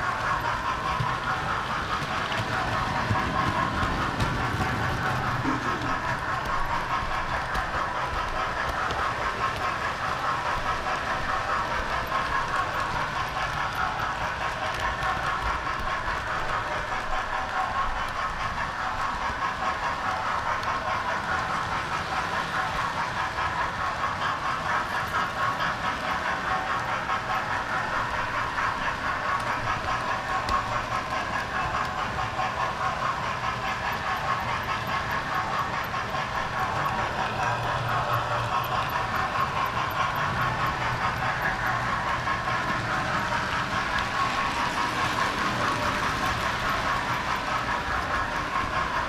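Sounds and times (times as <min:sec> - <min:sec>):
model train rattling on track: 0:00.0 - 0:49.0.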